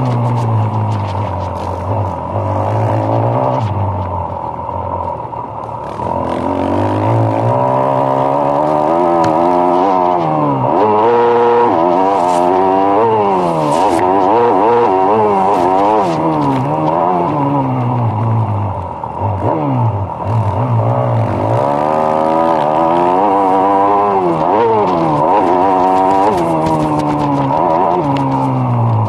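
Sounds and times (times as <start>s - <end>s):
motocross bike engine revving: 0.0s - 4.7s, 5.6s - 29.0s.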